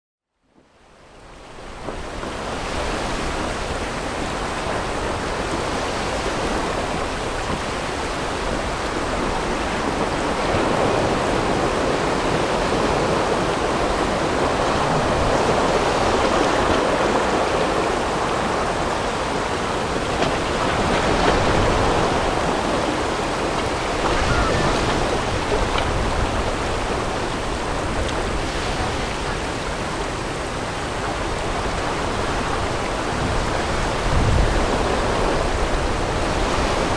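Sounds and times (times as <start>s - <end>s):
whitewater rushing over rapids: 0.8s - 36.9s.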